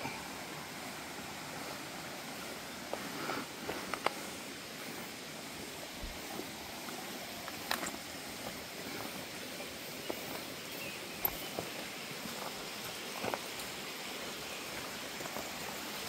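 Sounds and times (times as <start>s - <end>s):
water hissing: 0.0s - 16.0s
light ticks and patters: 2.4s - 16.0s.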